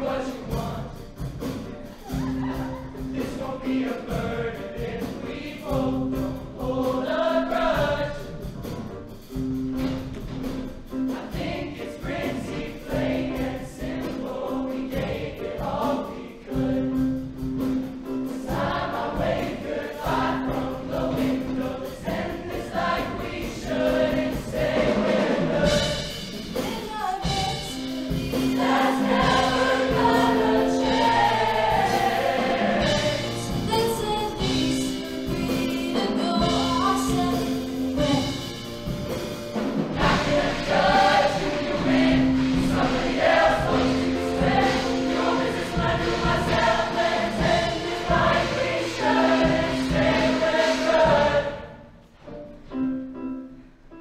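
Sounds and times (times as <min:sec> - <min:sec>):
choir singing in parts: 0:00.0 - 0:08.9, 0:10.4 - 0:52.1
instrumental accompaniment: 0:00.0 - 0:54.0.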